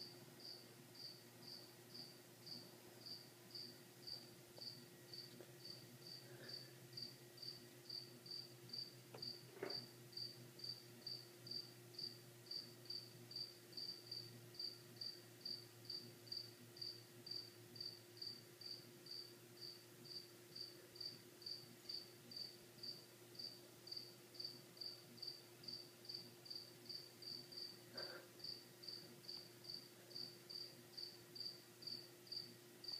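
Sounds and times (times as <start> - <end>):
cricket chirping: 0.0 - 32.9
faint steady hum: 0.0 - 32.9.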